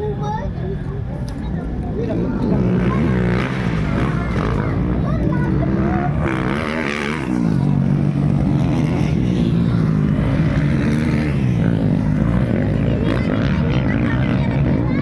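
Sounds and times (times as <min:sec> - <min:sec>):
dirt bike engines racing: 0:00.0 - 0:15.0.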